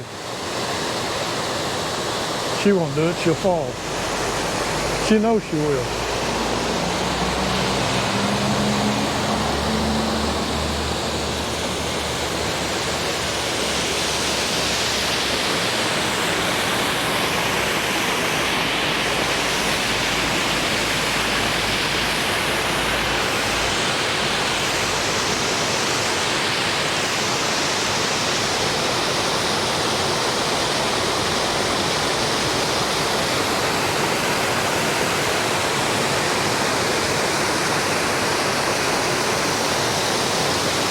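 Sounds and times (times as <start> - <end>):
waterfall pouring and splashing: 0.0 - 40.9.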